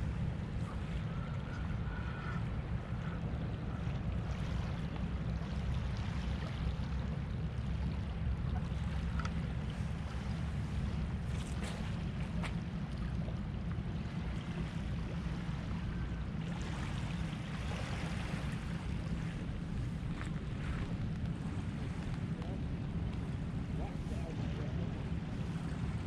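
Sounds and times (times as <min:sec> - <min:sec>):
small waves lapping shoreline: 0:00.0 - 0:26.0.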